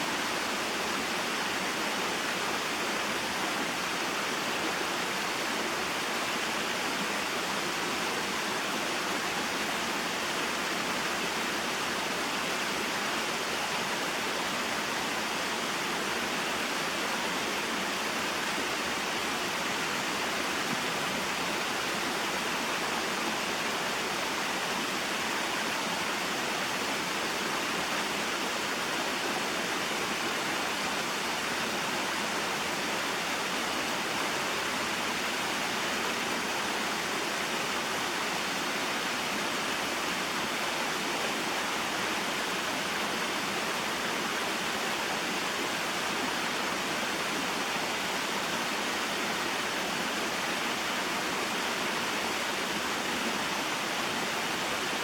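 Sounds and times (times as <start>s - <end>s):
water flowing over rocks: 0.0s - 55.0s.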